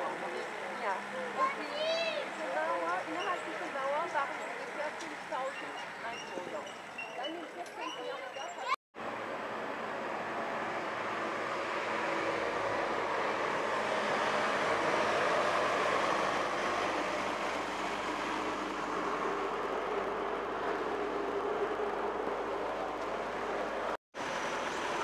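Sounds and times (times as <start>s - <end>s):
tyres rolling on road: 0.0s - 25.0s.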